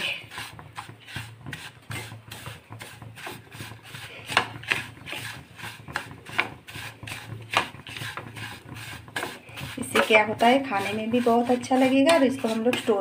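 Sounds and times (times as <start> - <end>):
wooden spatula scraping in pan: 0.0 - 13.0.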